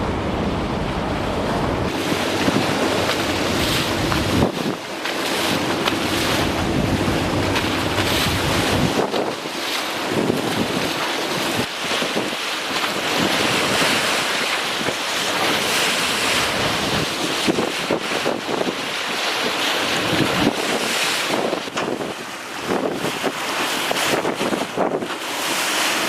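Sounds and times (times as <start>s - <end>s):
choppy water rushing: 0.0s - 26.0s
wind buffeting microphone: 0.0s - 26.0s.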